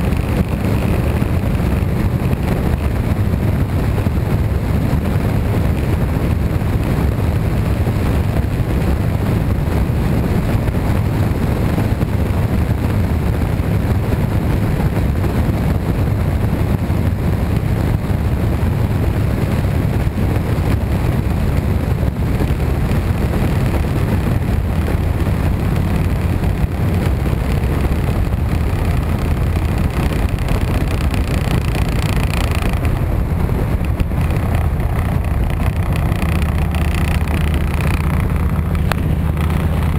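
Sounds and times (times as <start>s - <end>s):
road noise: 0.0s - 39.9s
vehicle engine running: 0.0s - 39.9s
wind buffeting microphone: 0.0s - 39.9s.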